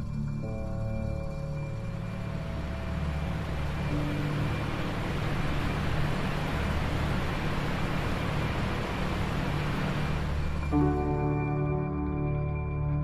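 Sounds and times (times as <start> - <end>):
steady rushing noise: 0.0 - 11.8
low sustained drone: 0.0 - 13.0.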